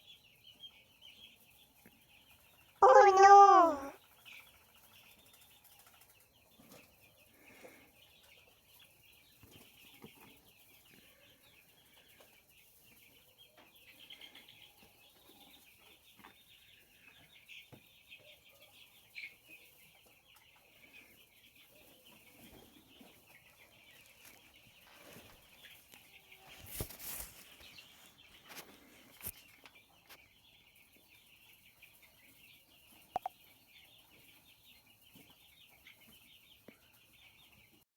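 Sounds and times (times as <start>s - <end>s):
chicks peeping: 0.0s - 37.8s.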